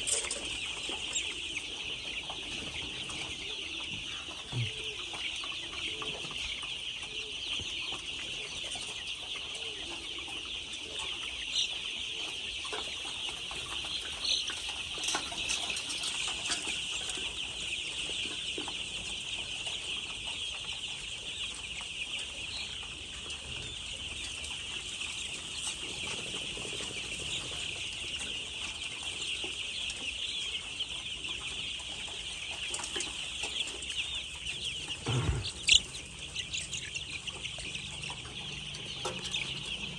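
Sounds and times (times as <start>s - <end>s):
chickens clucking chorus: 0.0s - 39.9s.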